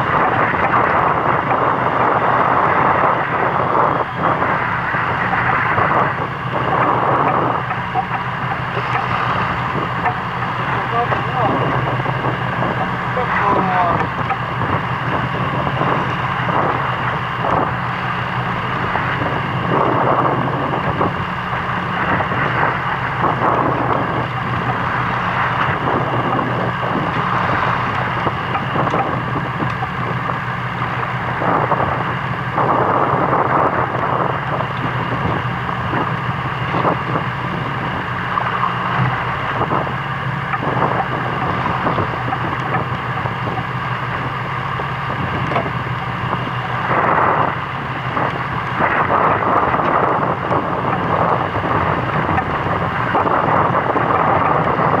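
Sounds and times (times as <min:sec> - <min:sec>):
boat engine humming: 0:00.0 - 0:55.0
wind buffeting microphone: 0:00.0 - 0:55.0.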